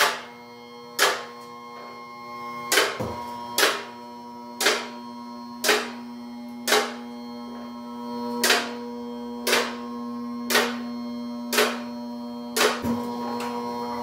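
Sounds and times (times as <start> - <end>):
hydraulic pump motor humming: 0.0 - 14.0.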